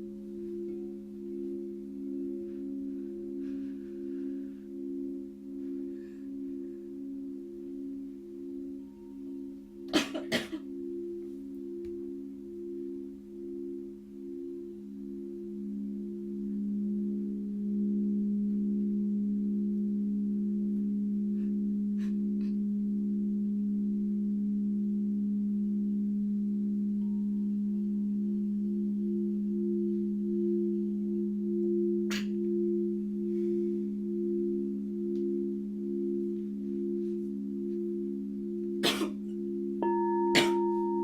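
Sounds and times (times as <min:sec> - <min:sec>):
singing bowls droning: 0:00.0 - 0:41.0.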